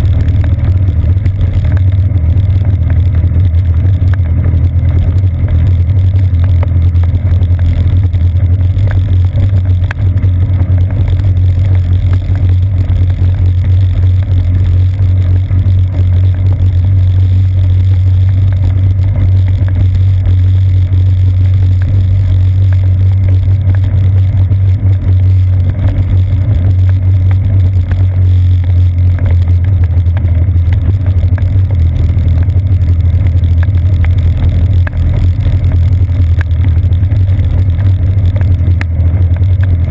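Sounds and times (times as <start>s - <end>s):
bicycle road noise rumble: 0.0s - 39.9s.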